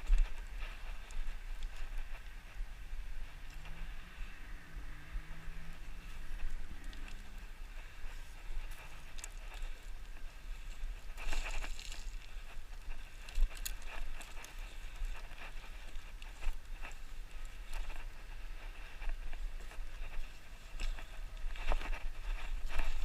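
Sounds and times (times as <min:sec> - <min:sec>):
gravel clicking underfoot: 0:00.0 - 0:23.0
low wind rumble on microphone: 0:00.0 - 0:23.0.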